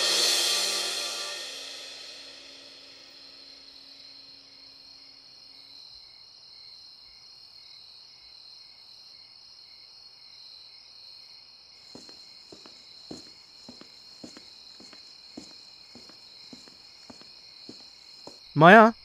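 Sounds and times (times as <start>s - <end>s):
crickets chirping: 2.9s - 19.0s.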